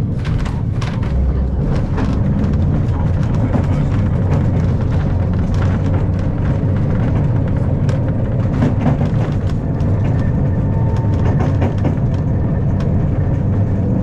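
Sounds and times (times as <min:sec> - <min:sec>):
tram rumbling on rails: 0:00.0 - 0:14.0
small clicks and rattles: 0:00.2 - 0:12.2.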